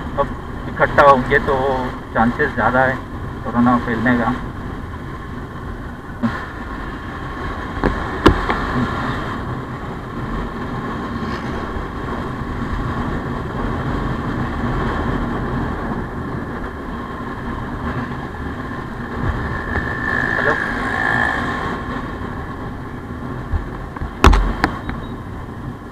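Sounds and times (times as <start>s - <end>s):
motorcycle engine riding: 0.0s - 25.9s
road noise: 0.0s - 25.9s.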